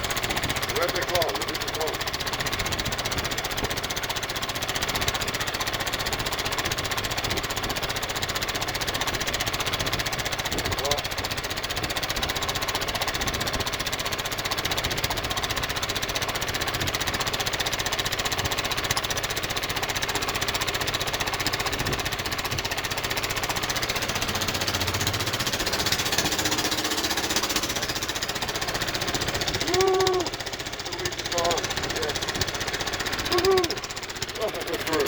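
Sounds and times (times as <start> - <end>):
small boat engine running: 0.0 - 35.0.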